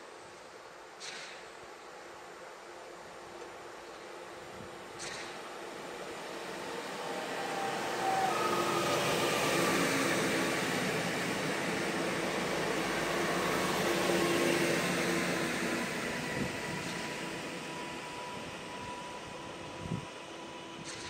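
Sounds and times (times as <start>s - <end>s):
passenger train passing: 1.7s - 21.0s
whining train running gear: 2.9s - 21.0s.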